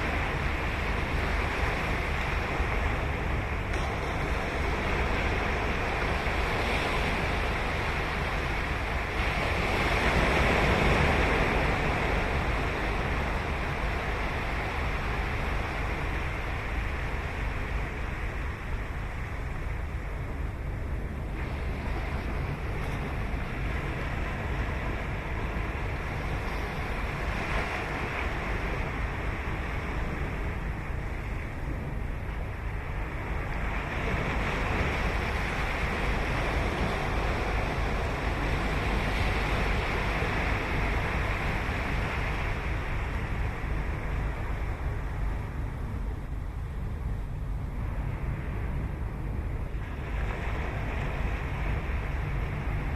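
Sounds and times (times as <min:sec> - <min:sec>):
ocean surf breaking: 0:00.0 - 0:20.0, 0:21.1 - 0:46.4, 0:47.0 - 0:52.9
steady low rumble: 0:00.0 - 0:52.9.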